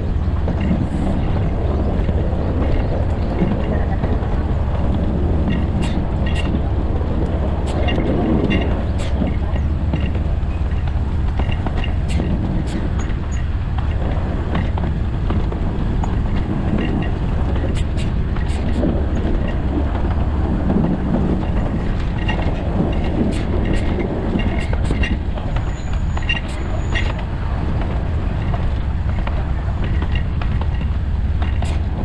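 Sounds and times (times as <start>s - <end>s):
rail joint clicks: 0.0s - 32.0s
train wheels rumbling on rail: 0.0s - 32.0s.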